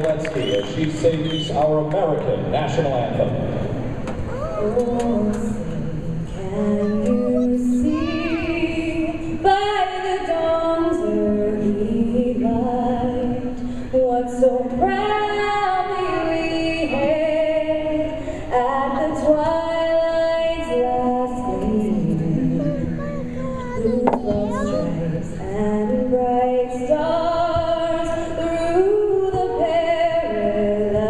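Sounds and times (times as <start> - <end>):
woman singing an anthem: 4.3 - 31.0.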